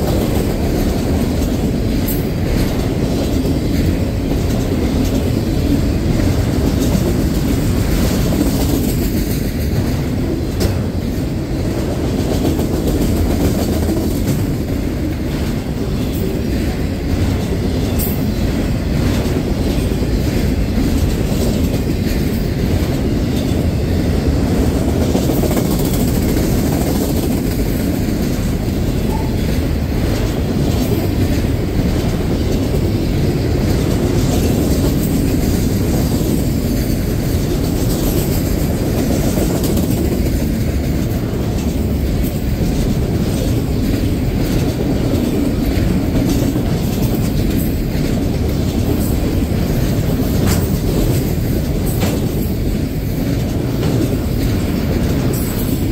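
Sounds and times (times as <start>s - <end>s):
freight train rumbling past: 0.0s - 55.9s
train wheels clacking: 0.0s - 55.9s.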